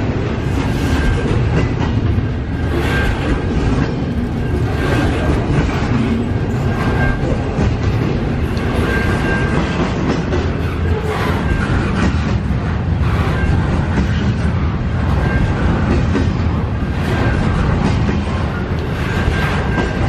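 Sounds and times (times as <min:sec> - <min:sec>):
steel train wheels rumbling on rails: 0:00.0 - 0:20.0.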